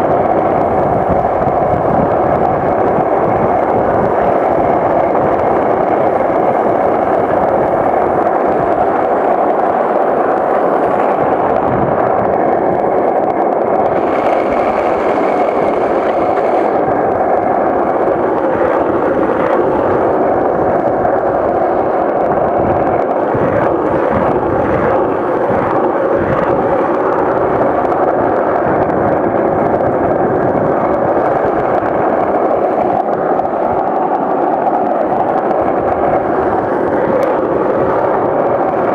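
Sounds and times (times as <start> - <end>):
skateboard wheels rolling on asphalt: 0.0 - 38.9
wind buffeting microphone: 0.0 - 38.9.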